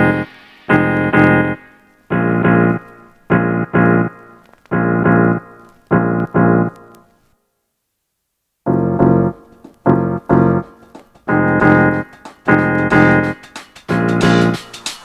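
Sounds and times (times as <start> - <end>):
piano chords: 0.0 - 7.1, 8.6 - 14.9.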